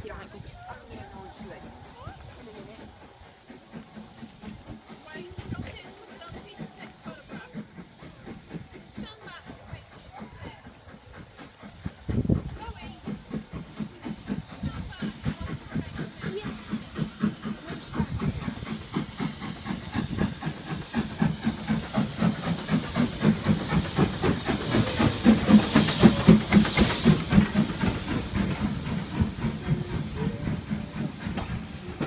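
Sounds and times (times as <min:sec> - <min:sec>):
steam hissing: 0:00.0 - 0:32.0
steam locomotive knocks: 0:00.1 - 0:32.0.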